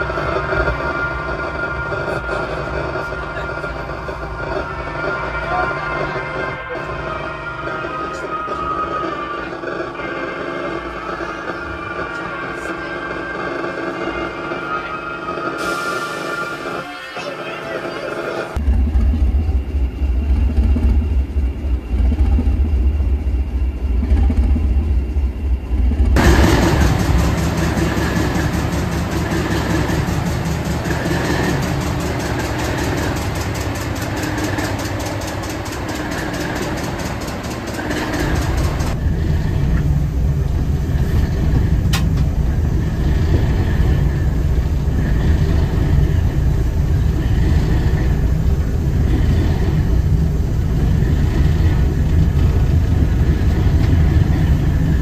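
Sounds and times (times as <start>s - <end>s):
diesel engine throbbing: 0.0s - 55.0s.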